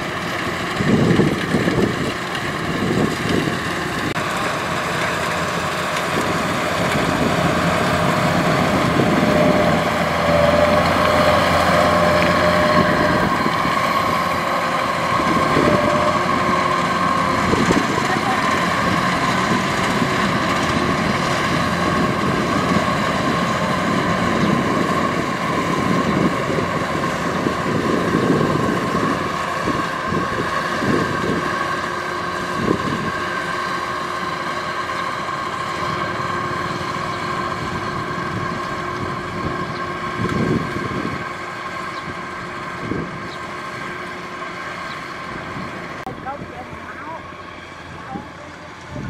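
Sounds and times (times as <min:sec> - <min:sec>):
combine harvester diesel drone: 0:00.0 - 0:49.0.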